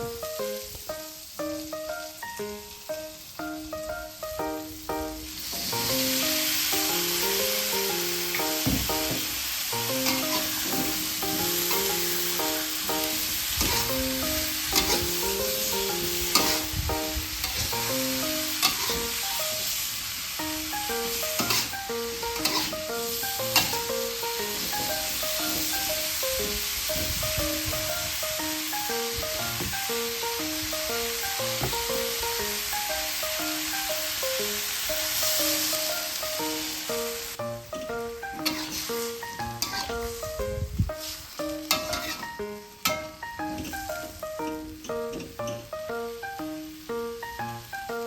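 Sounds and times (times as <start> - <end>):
background music melody: 0.0 - 48.0
food sizzling in a pan: 0.0 - 48.0.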